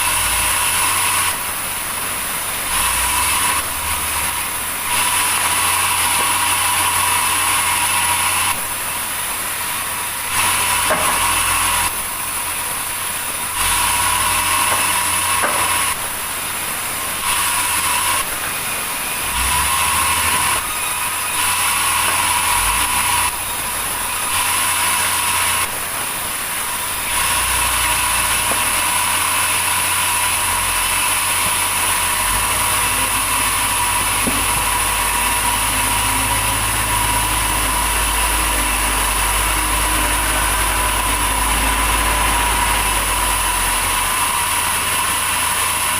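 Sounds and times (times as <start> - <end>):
sawmill saw cutting log: 0.0 - 45.9.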